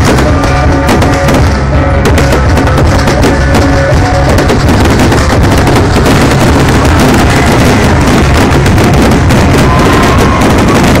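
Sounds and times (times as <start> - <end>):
fireworks bangs and crackling: 0.0 - 11.0
music playing: 0.0 - 11.0.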